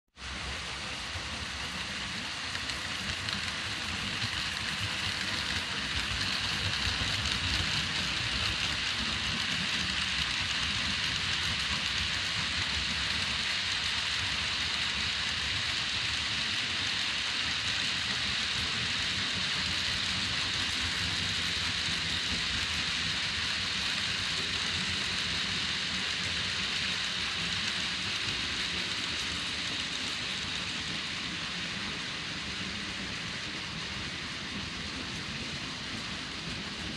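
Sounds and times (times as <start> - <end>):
model train wheels rattling: 0.3 - 36.9.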